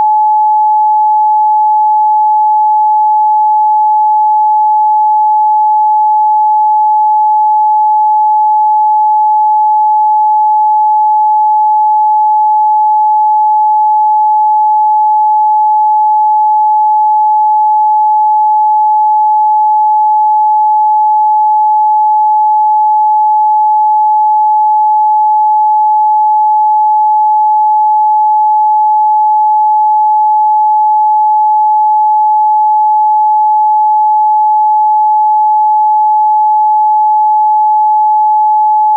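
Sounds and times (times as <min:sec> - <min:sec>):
sine test tone: 0:00.0 - 0:38.9.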